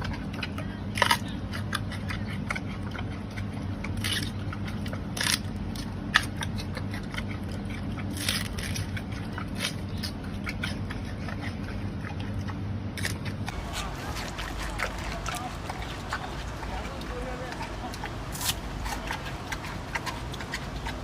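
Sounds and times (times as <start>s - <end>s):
panda chewing bamboo: 0.0s - 21.0s.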